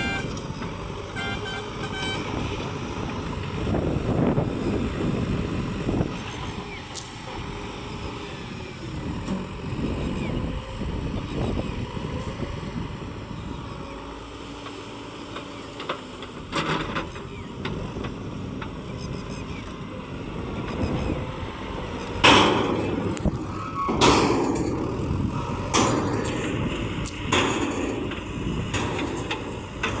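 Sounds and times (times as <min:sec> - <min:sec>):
heavy vehicle engine running unevenly: 0:00.0 - 0:30.0.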